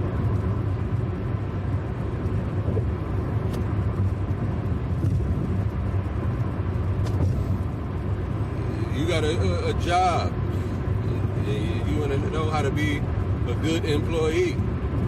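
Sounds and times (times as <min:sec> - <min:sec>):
vehicle rumble in motion: 0:00.0 - 0:15.0.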